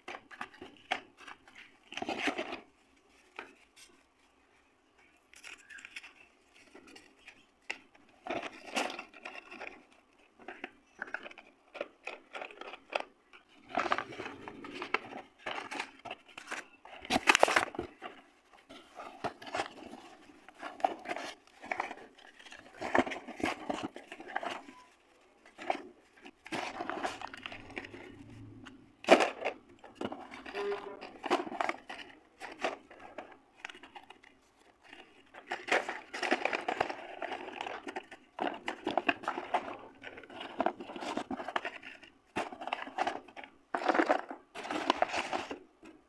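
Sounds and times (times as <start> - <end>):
paper wrappers rustling: 0.0 - 46.0.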